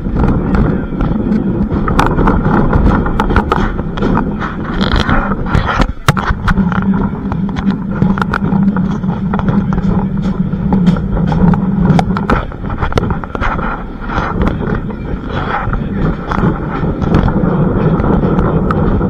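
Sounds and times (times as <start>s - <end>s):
sharp clicks and knocks: 0.0s - 19.0s
train low drone: 0.0s - 19.0s.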